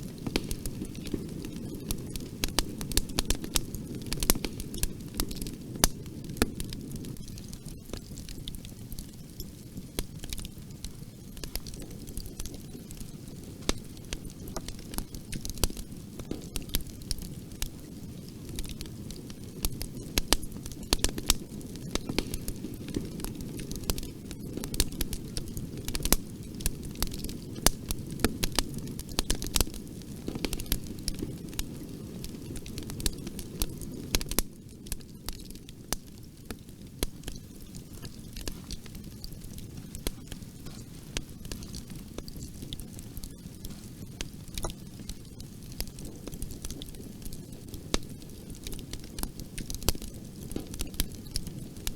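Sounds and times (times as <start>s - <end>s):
burning wood crackling and popping: 0.0s - 51.9s
low rumble of flames: 0.0s - 51.9s.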